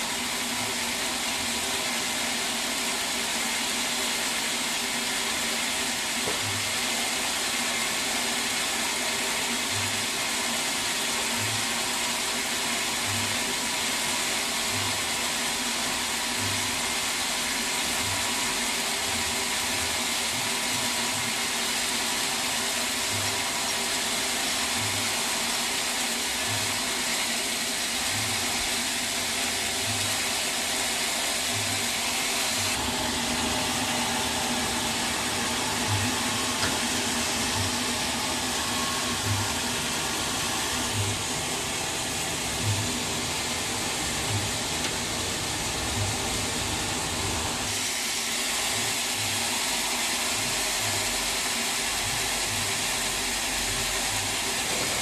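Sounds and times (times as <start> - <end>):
sawmill machinery rushing: 0.0 - 55.0.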